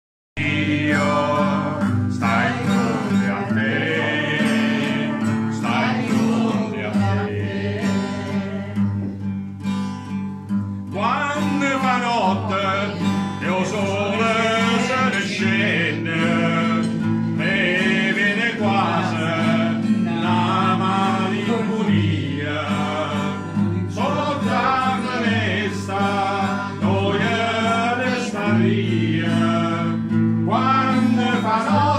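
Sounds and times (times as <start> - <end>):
man singing: 0.4 - 9.2, 10.9 - 31.9
guitar chords: 0.4 - 31.9.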